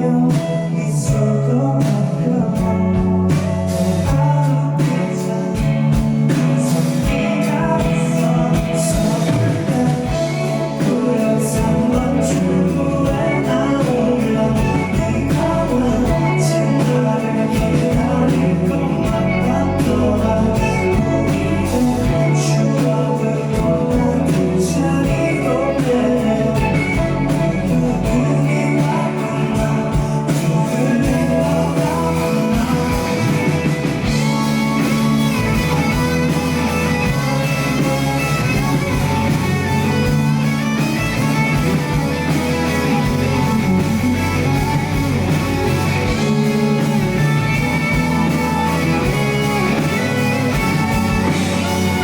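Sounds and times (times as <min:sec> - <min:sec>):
bass guitar: 0:00.0 - 0:52.0
drums: 0:00.0 - 0:52.0
electric guitar: 0:00.0 - 0:52.0.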